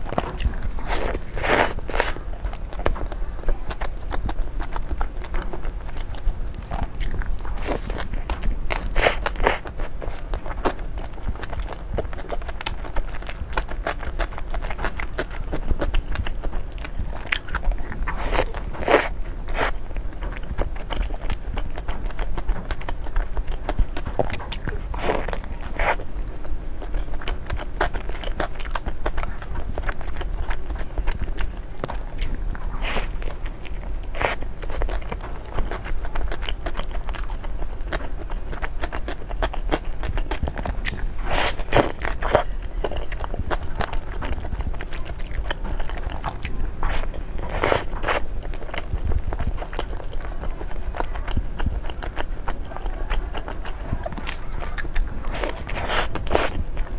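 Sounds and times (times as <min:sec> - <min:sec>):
person chewing crunchy food: 0:00.0 - 0:56.9.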